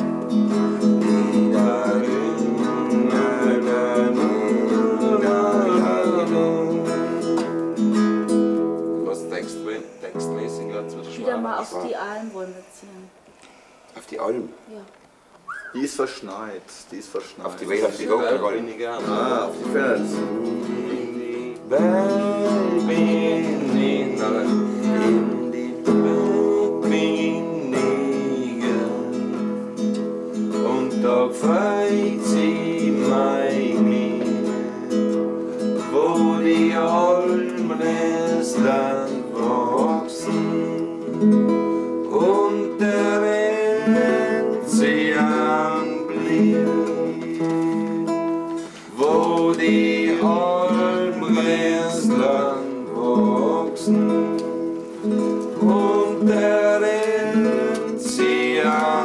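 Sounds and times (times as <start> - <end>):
man singing folk song: 0.0 - 11.6, 17.4 - 59.0
strummed acoustic guitar: 0.0 - 12.0, 17.6 - 59.0.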